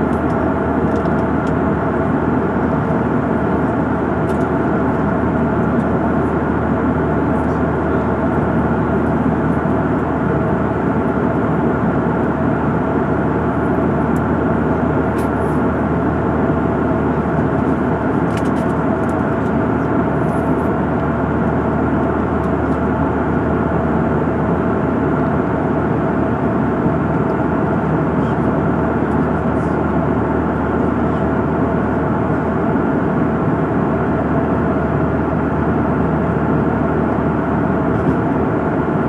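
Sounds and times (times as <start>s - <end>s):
jet airliner cabin noise: 0.0s - 39.0s.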